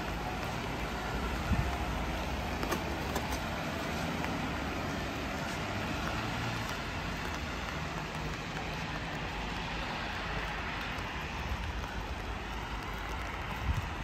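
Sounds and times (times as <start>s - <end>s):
road traffic: 0.0s - 14.0s
steady rain hiss: 0.0s - 14.0s.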